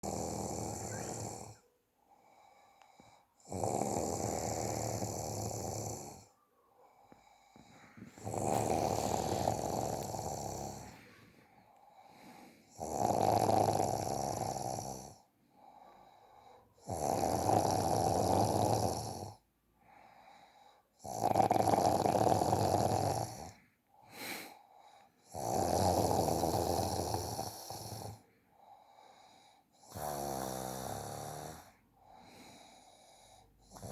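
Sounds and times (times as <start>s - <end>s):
person snoring: 0.0s - 1.6s, 3.0s - 6.3s, 7.2s - 19.4s, 21.0s - 24.6s, 25.2s - 33.9s
quiet breaths: 0.0s - 33.9s.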